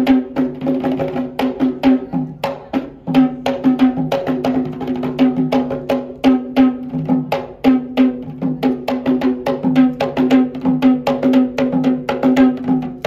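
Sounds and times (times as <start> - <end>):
fast drumming: 0.0 - 13.0.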